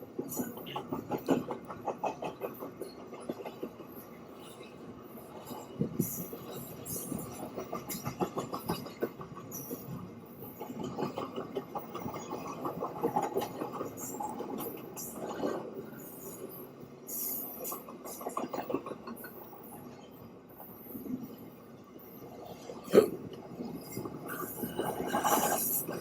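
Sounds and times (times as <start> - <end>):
freight train wheels clattering on rails: 0.0 - 21.5, 22.2 - 26.0.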